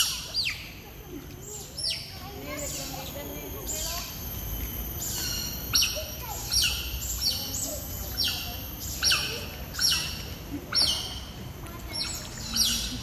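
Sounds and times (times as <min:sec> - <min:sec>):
otters chirping: 0:01.5 - 0:13.0.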